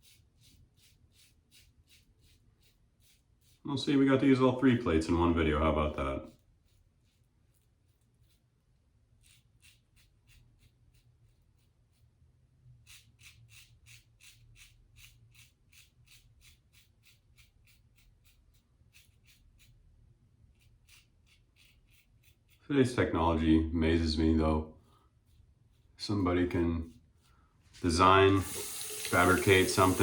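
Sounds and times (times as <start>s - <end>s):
razor scratching through stubble: 0.0s - 4.4s, 5.2s - 12.1s, 12.7s - 19.8s, 20.4s - 23.1s, 25.2s - 30.0s.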